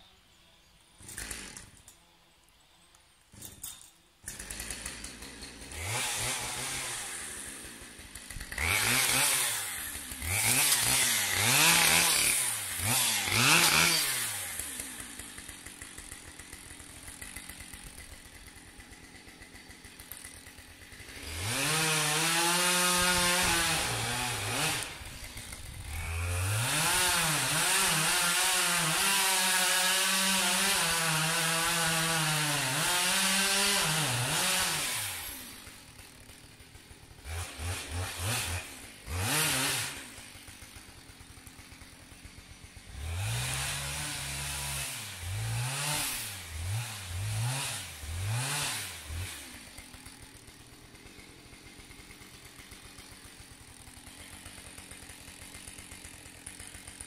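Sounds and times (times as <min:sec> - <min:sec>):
chainsaw cutting wood: 0:01.0 - 0:02.0, 0:03.2 - 0:57.0
chainsaw revving and idling: 0:01.0 - 0:02.0, 0:03.2 - 0:57.0.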